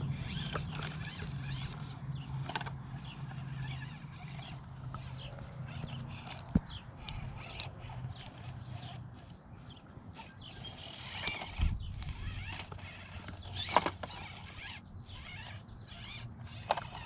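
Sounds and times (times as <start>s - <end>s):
toy car knocking and scraping on rocks: 0.0s - 17.0s.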